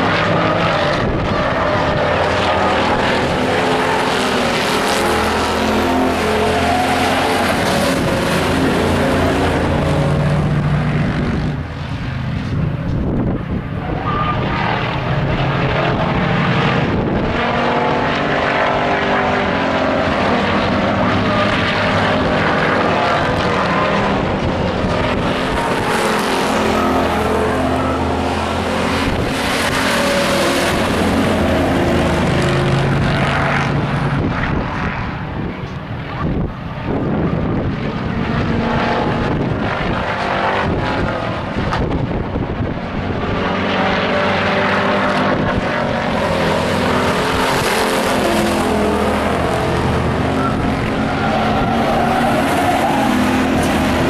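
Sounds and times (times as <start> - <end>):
racing truck engines: 0.0 - 54.0.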